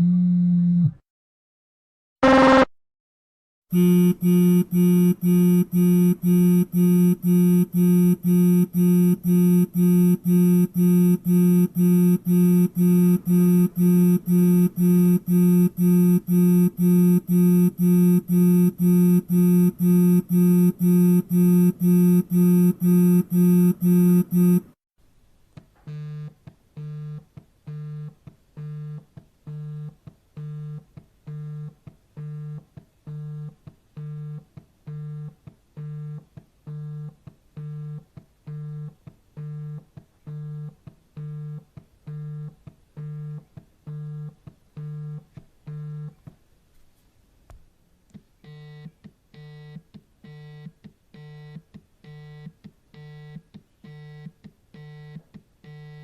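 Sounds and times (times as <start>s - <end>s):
mobile phone vibrating: 3.7s - 24.8s, 25.9s - 46.2s, 48.4s - 56.0s.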